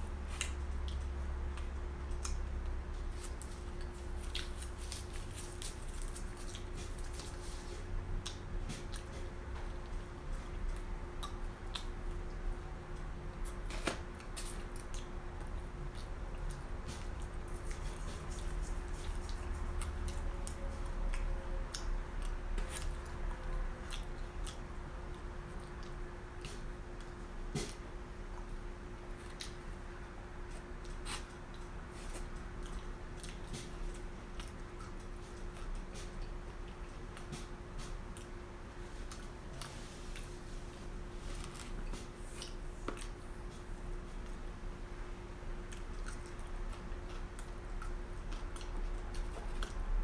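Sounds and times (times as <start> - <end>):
steady low hum: 0.0 - 50.0
chewing with mouth smacks: 0.2 - 50.0.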